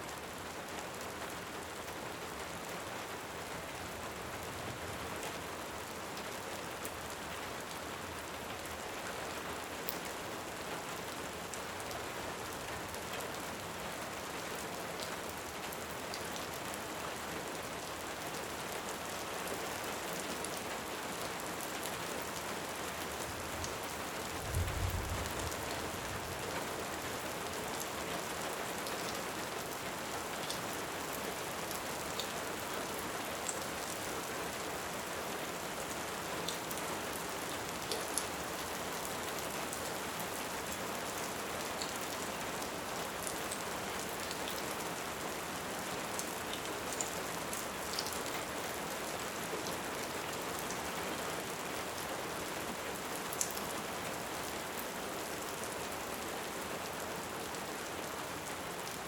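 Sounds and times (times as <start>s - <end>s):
heavy rain: 0.1s - 59.0s.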